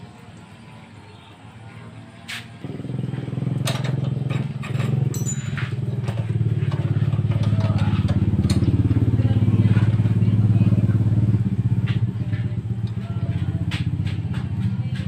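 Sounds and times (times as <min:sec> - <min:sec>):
small engine running: 0:02.6 - 0:15.0.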